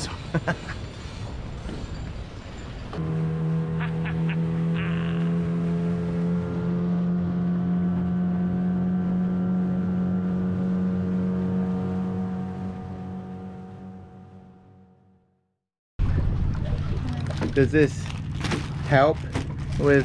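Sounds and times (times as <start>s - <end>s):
outboard motor droning: 0.0s - 15.4s, 16.0s - 20.0s.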